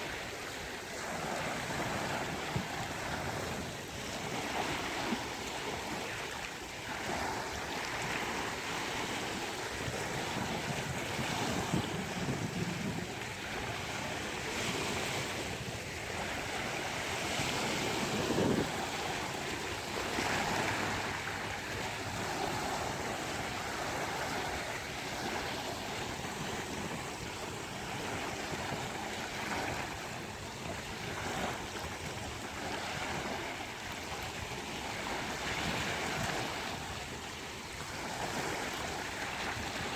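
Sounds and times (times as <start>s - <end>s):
ocean waves breaking on beach: 0.0s - 39.9s
wind buffeting microphone: 0.0s - 39.9s.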